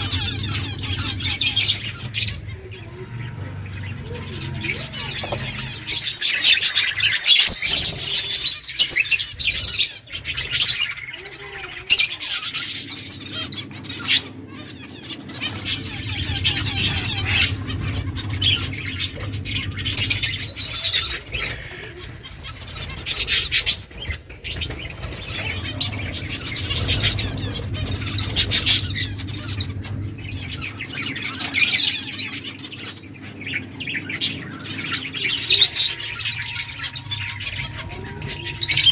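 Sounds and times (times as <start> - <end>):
low steady hum: 0.0 - 31.6, 34.5 - 38.9
finches chirping: 0.0 - 38.9.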